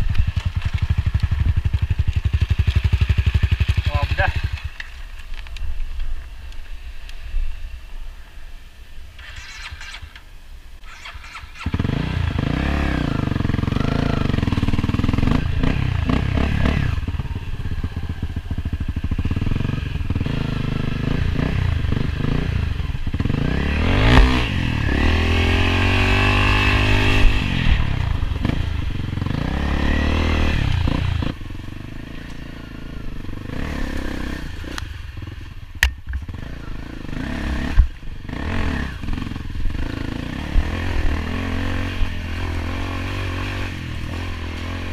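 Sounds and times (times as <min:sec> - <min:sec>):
dirt bike engine revving: 0:00.0 - 0:04.9, 0:09.2 - 0:10.2, 0:10.8 - 0:35.5, 0:36.1 - 0:44.9.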